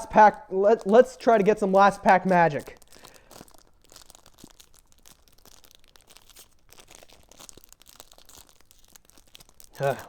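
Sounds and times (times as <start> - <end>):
foil wrapper crinkling and tearing: 0.0 - 10.0
small clicks and crackles: 0.7 - 10.0.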